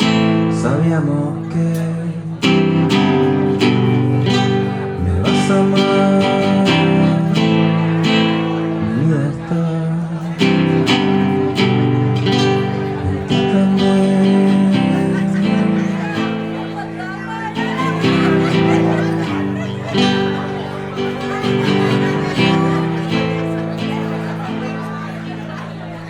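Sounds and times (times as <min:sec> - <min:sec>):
live band playing chords: 0:01.5 - 0:26.0.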